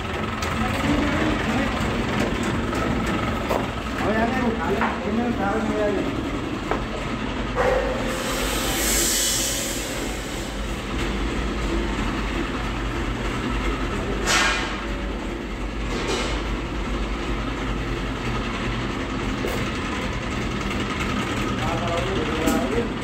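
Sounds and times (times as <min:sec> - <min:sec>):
factory machinery rumble and hum: 0:00.0 - 0:23.0.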